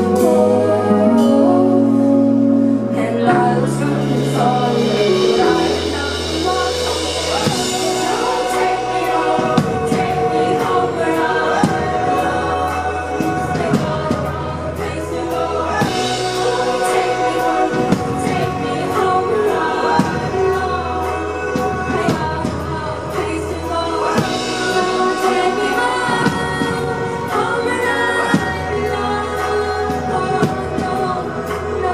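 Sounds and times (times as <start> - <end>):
drumbeat and bass: 0.0 - 31.9
woman singing into microphone: 0.0 - 31.9.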